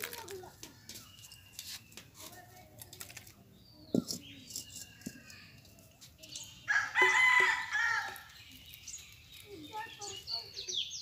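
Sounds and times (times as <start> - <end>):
faint bird chirps: 0.7 - 2.7, 3.5 - 11.0.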